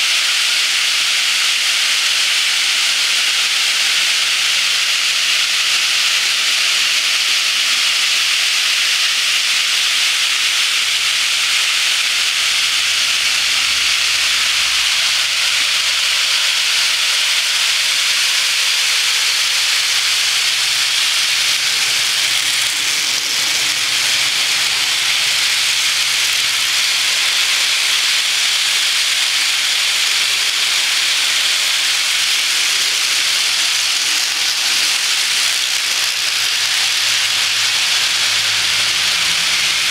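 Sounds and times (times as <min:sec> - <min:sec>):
model train wheels on rails: 0:00.0 - 0:39.9.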